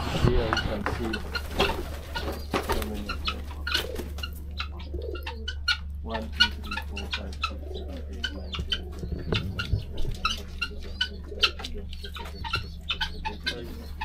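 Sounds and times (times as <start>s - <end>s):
doves cooing: 0.0s - 14.0s
high bird chirps and peeps: 0.6s - 14.0s.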